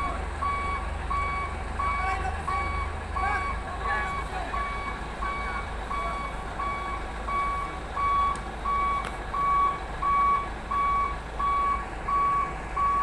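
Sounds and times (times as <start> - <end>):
diesel truck engine rumble: 0.0 - 13.0
reversing alarm beeping: 0.4 - 13.0.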